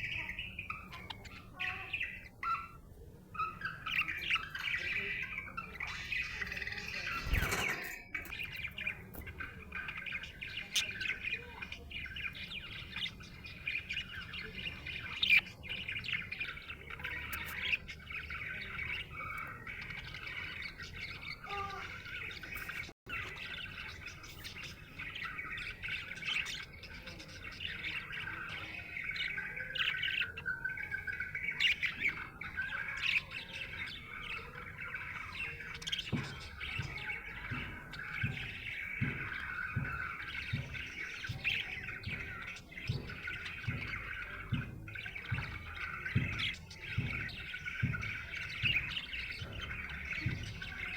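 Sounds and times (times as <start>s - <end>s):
budgerigar chirping: 0.0s - 50.9s.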